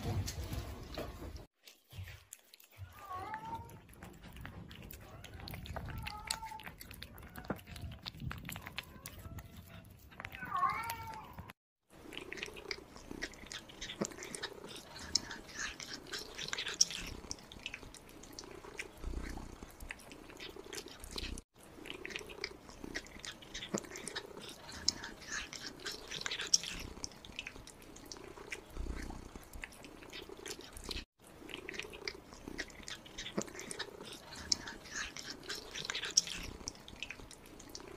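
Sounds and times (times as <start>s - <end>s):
kittens chewing wet meat: 0.2s - 37.9s.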